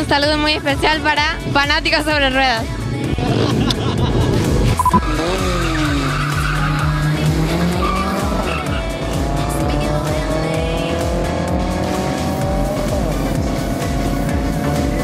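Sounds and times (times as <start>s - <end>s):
background music: 0.0s - 15.0s
car engines revving: 0.0s - 15.0s.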